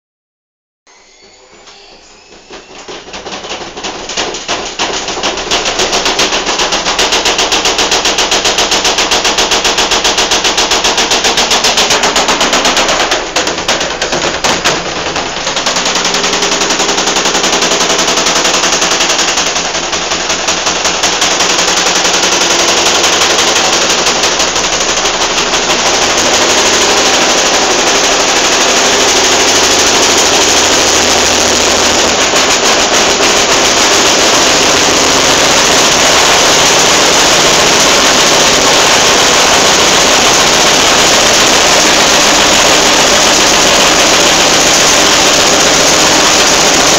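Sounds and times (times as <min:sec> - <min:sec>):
washing machine banging during spin: 0:01.4 - 0:46.9.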